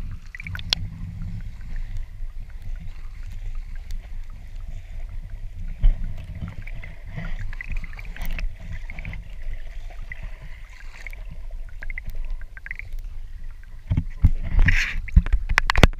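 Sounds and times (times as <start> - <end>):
water sloshing and lapping: 0.0 - 15.9
water splashing: 0.0 - 15.9.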